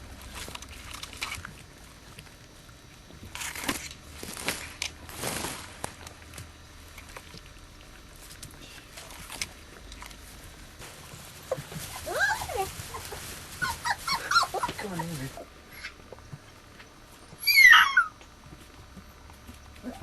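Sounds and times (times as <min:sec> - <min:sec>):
puppies scuffing and scratching: 0:00.0 - 0:17.6.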